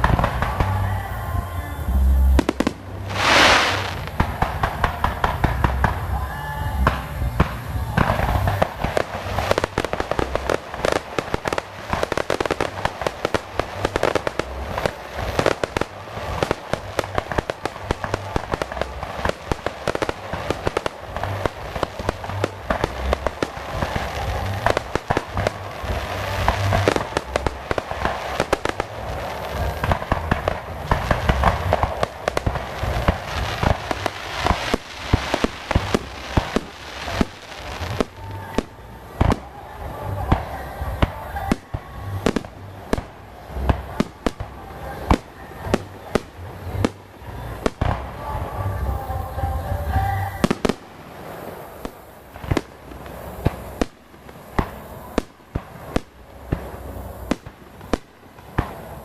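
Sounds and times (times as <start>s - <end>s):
fireworks banging and crackling: 0.0s - 59.0s.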